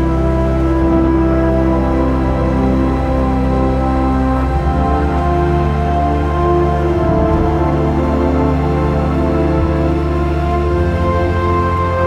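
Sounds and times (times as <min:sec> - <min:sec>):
slow sustained music chords: 0:00.0 - 0:12.0
steady low drone: 0:00.0 - 0:12.0.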